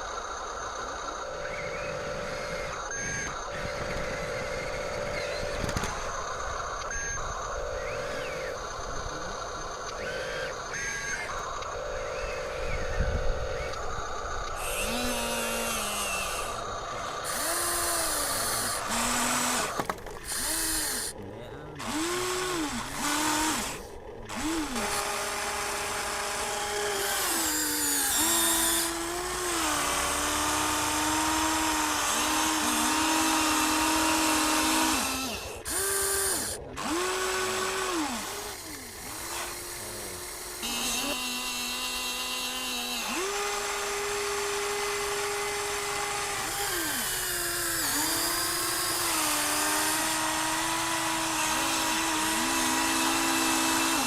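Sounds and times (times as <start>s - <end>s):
toy electric motors whining: 0.0s - 54.0s.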